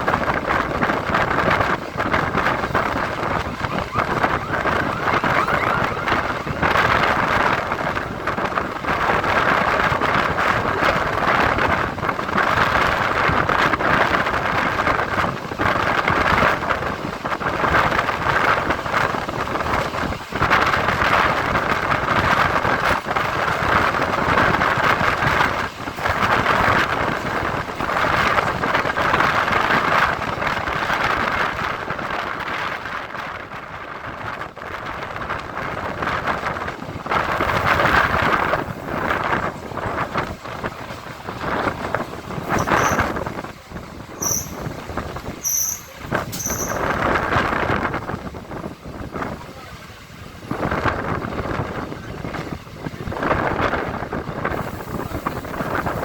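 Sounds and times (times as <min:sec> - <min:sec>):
train running at speed: 0:00.0 - 0:56.0.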